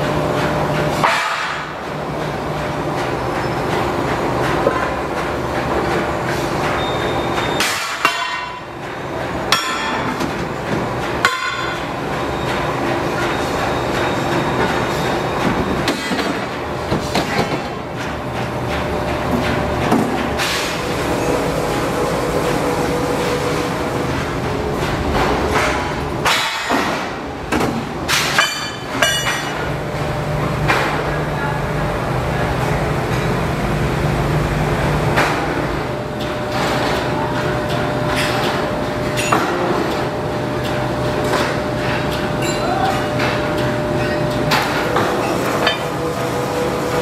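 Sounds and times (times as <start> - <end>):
workshop machinery hum: 0.0 - 47.0.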